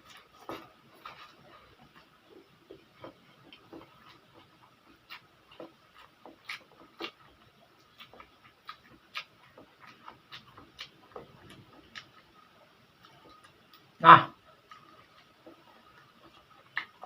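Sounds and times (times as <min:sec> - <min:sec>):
wet chewing clicks: 0:00.0 - 0:17.0.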